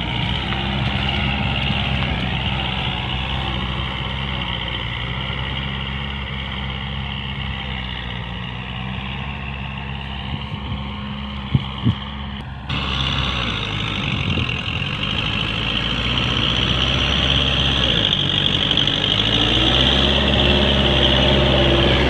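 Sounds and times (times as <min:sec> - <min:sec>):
mower deck whirring: 0:00.0 - 0:22.0
tractor diesel engine running: 0:00.0 - 0:22.0.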